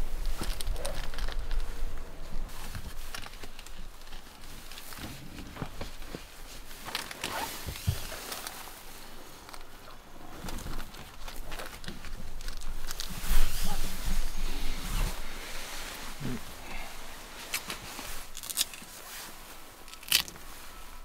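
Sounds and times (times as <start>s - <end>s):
window shades rustling and crinkling: 0.0s - 21.0s.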